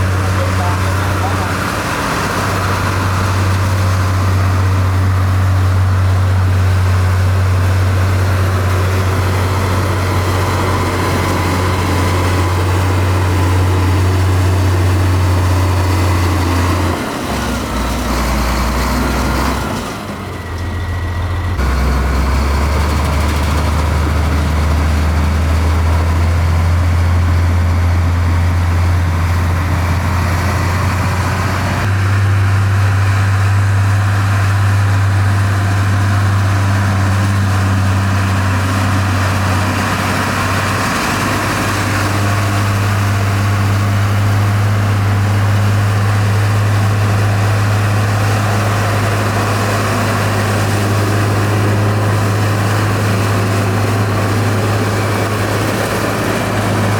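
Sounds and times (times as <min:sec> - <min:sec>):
diesel machinery droning: 0:00.0 - 0:56.9.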